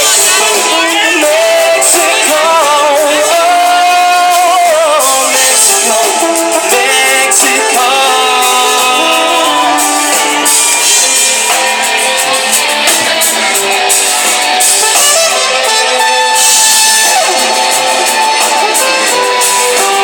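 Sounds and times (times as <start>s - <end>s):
drums: 0.0s - 20.0s
electric guitar strumming: 0.0s - 20.0s.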